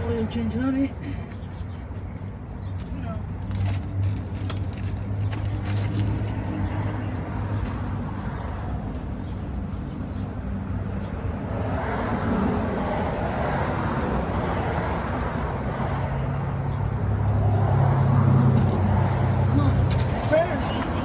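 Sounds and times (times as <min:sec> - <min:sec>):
motor vehicle running hum: 0:00.0 - 0:21.0.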